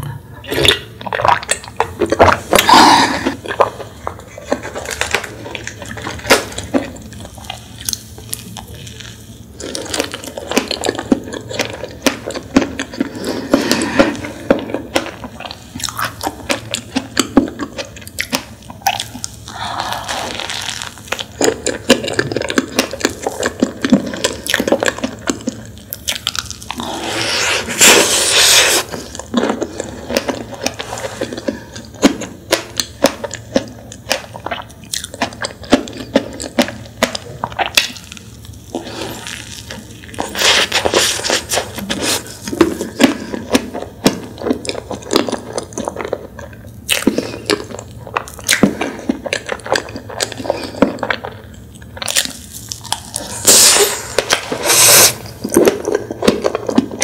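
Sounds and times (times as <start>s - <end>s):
chewing soft pastry: 0.0s - 57.0s.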